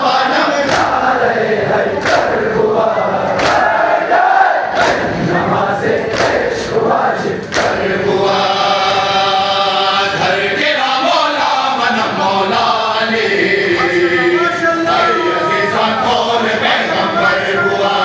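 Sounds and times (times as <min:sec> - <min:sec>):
crowd of men chanting: 0:00.0 - 0:18.0.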